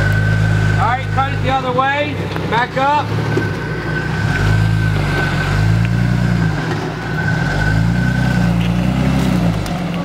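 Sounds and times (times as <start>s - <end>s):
engine revving: 0.0s - 10.0s.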